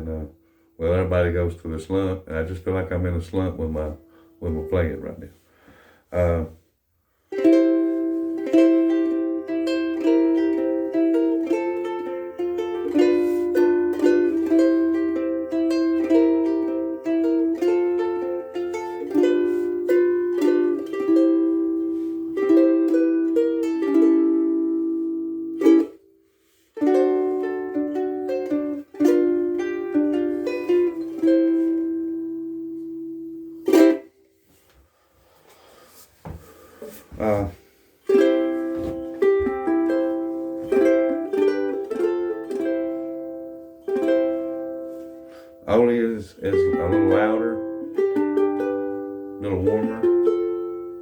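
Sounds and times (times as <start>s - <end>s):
ukulele playing chords and melody: 7.3s - 34.7s, 36.9s - 51.0s.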